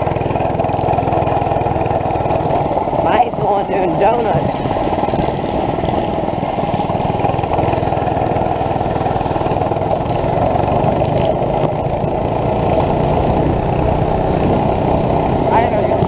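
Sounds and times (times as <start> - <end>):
go-kart engine with loud exhaust: 0.0 - 16.0.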